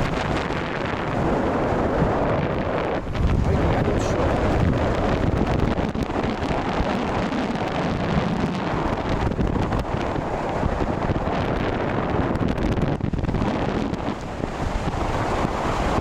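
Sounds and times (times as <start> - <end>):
underwater water rushing: 0.0 - 16.0.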